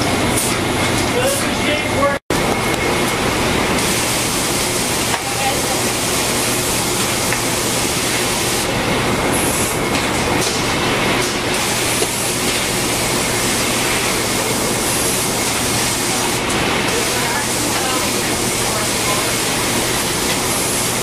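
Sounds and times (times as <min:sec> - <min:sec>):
seeding machine humming and hissing: 0:02.4 - 0:21.0.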